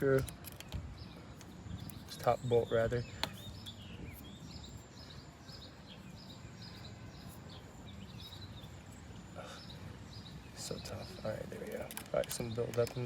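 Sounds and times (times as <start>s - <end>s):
low steady background noise: 0.0s - 13.0s
small bird chirping: 0.0s - 13.0s.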